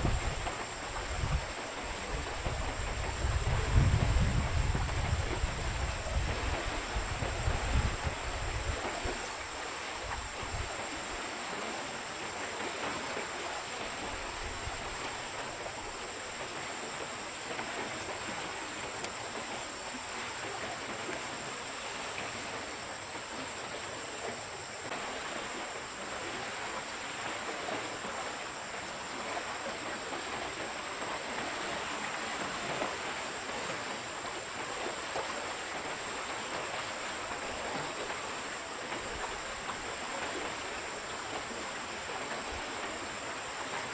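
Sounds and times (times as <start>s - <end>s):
stream rushing: 0.0s - 43.9s.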